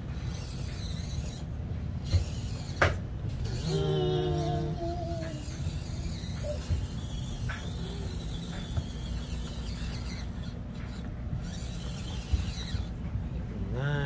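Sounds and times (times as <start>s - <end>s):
toy car drivetrain whir: 0.0s - 13.1s.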